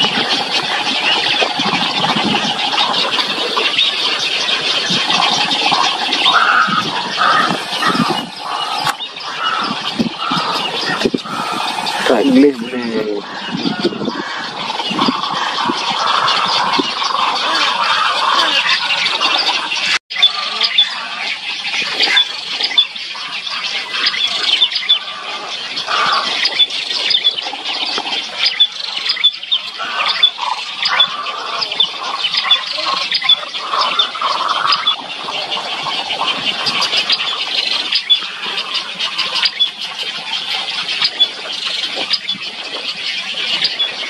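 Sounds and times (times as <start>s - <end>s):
egrets squawking and chattering: 0.0s - 44.0s.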